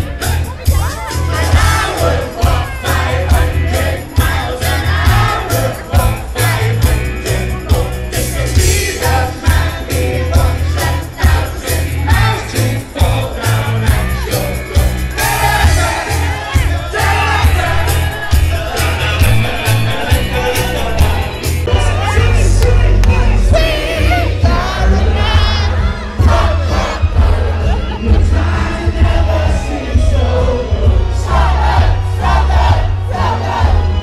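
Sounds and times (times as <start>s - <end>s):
crowd singing along: 0.0s - 34.0s
pop song over sound system: 0.0s - 34.0s.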